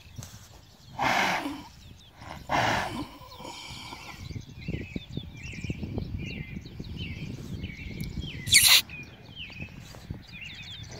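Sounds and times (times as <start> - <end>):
small birds chirping: 0.0 - 10.9
wind on microphone: 0.0 - 10.9.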